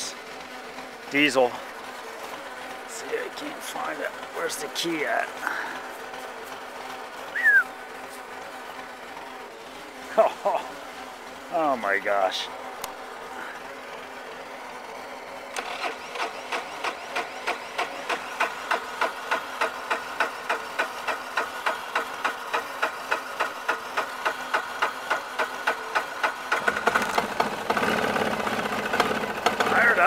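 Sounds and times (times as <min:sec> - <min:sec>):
engine cranking on starter: 0:00.0 - 0:30.0
engine running: 0:00.0 - 0:30.0.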